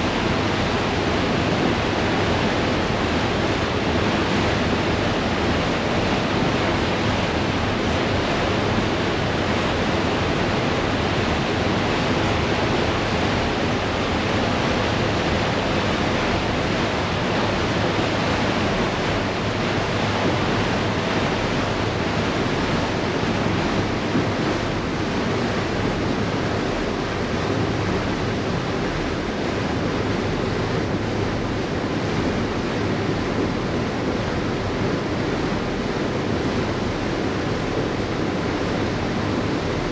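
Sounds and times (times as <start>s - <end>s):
water churning in boat wake: 0.0s - 39.9s.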